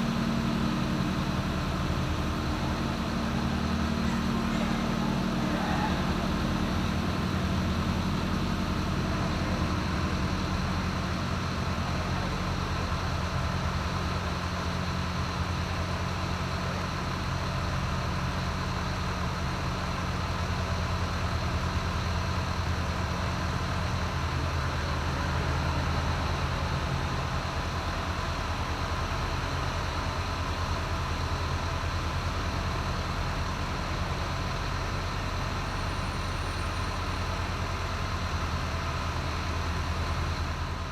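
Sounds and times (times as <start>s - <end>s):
bus engine idling: 0.0s - 40.9s.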